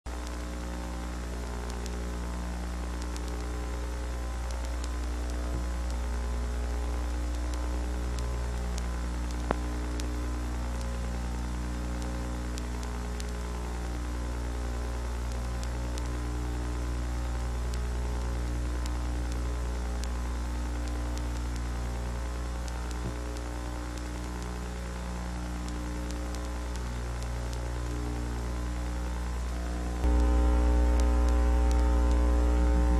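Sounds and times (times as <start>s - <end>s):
electrical mains hum: 0.1s - 32.9s
static crackle: 0.1s - 32.9s.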